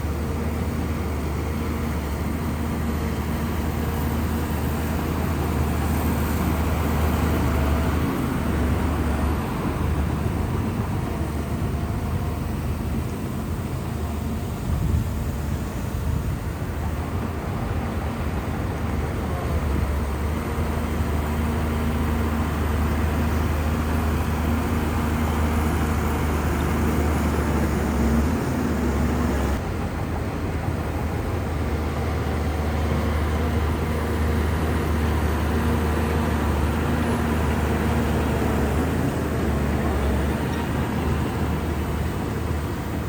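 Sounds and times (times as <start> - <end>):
bulldozer diesel engine droning: 0.0 - 43.0.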